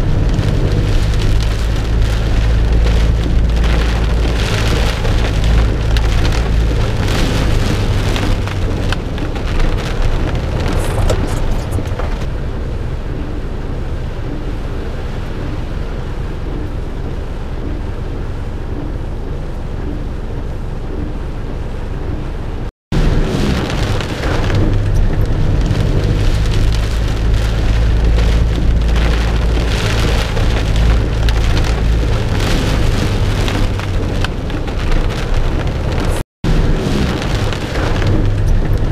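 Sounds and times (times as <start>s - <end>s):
deep low thunder rumble: 0.0s - 38.9s
heavy rain pouring: 0.0s - 38.9s.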